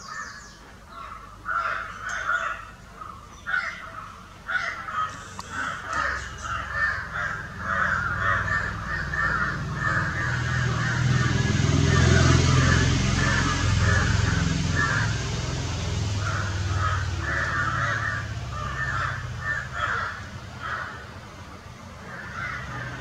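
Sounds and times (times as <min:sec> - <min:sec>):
bird calls: 0:00.0 - 0:23.0.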